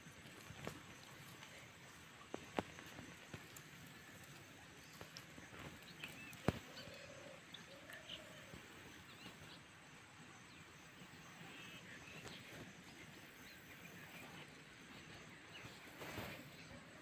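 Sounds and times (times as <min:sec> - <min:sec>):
faint bird chirps: 0:00.6 - 0:17.0.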